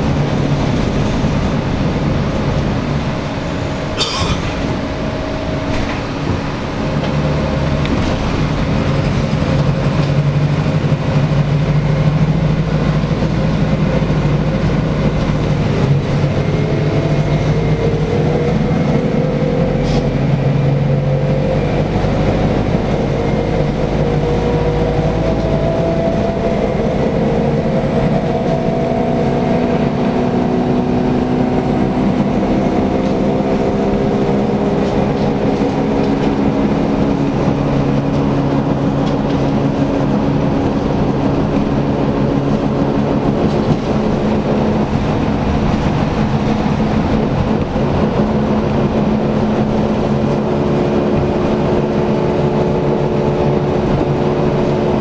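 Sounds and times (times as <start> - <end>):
bus engine hum with whine: 0.0 - 55.0.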